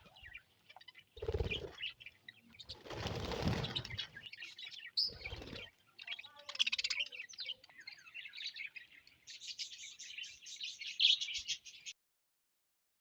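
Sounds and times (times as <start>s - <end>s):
budgerigars chirping: 0.0s - 11.9s.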